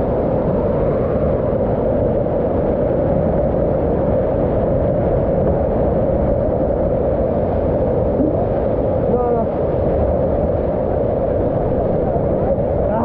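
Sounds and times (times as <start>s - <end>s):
whitewater rushing over rock: 0.0s - 13.0s.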